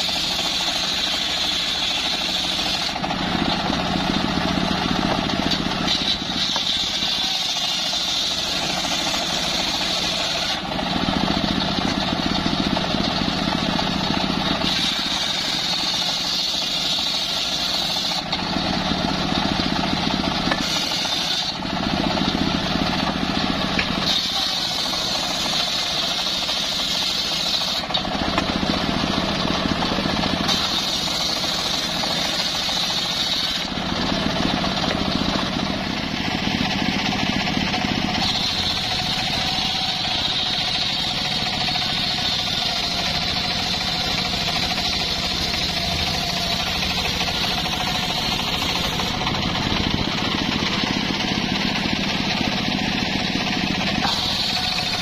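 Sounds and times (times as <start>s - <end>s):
table saw cutting boards: 0.0s - 55.0s.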